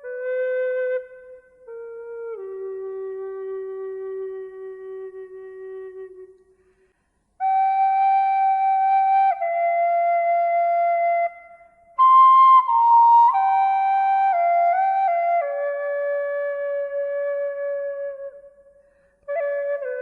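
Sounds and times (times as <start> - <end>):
slow flute-like melody: 0.0 - 20.0.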